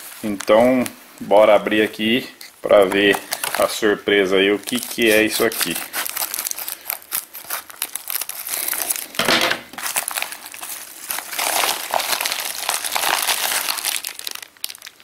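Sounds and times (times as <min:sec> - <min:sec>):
plastic mailer crinkling: 0:00.0 - 0:15.0.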